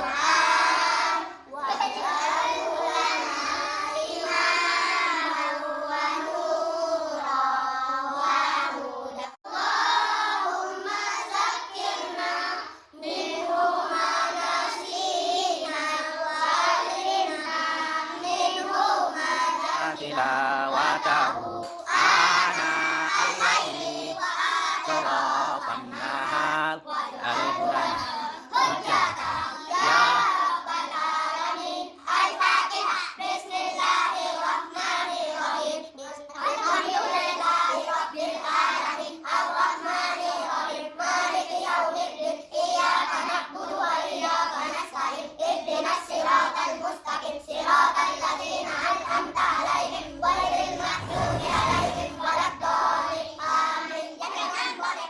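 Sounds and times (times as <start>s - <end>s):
child chanting recitation: 0.0s - 55.0s.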